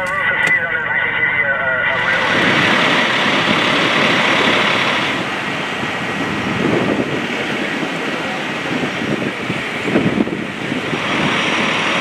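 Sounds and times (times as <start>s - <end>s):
fire engine running: 0.0s - 12.0s.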